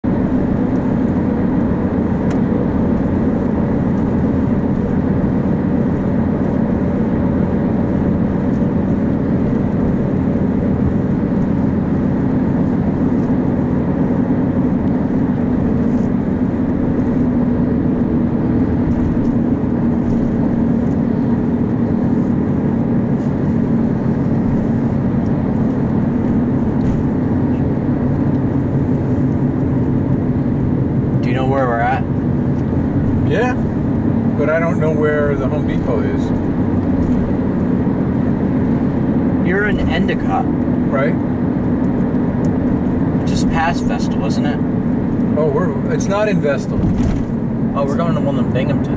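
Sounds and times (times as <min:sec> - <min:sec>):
car road and engine rumble: 0:00.0 - 0:48.9.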